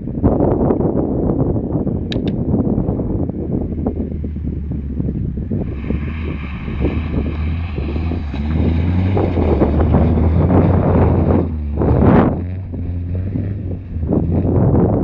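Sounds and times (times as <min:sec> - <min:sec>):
wind noise on microphone: 0:00.0 - 0:15.0
car engine running under load: 0:00.1 - 0:15.0.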